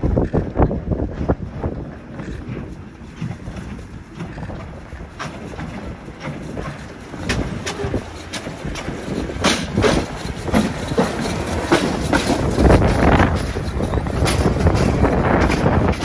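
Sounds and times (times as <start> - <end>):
low rumble of train: 0.0 - 16.0
train wheels clicking on rails: 0.0 - 16.0.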